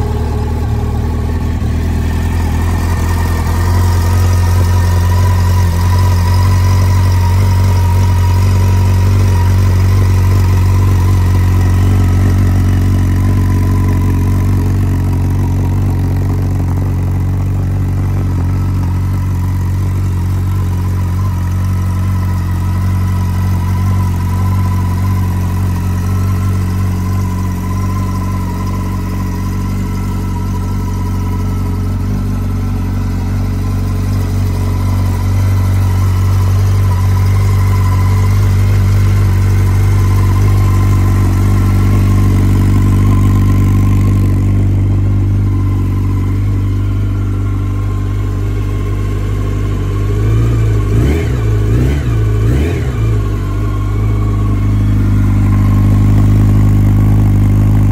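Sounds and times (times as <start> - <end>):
engine throttle blips: 0.0 - 57.9
motorcycle engine idling: 0.0 - 57.9.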